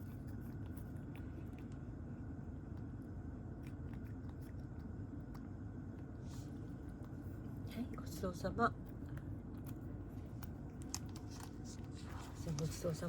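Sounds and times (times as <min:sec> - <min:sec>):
cat chewing food: 0:00.0 - 0:13.0
steady low hum: 0:00.0 - 0:13.0.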